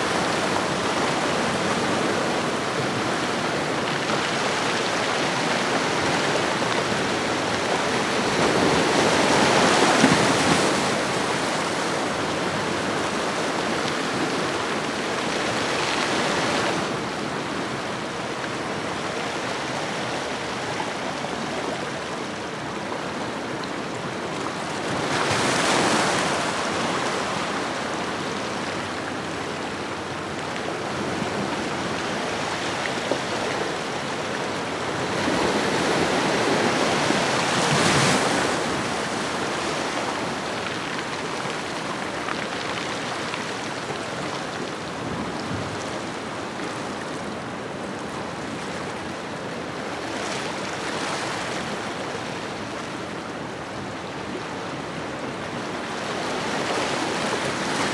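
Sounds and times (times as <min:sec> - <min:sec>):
ocean waves washing onto shore: 0:00.0 - 0:57.9.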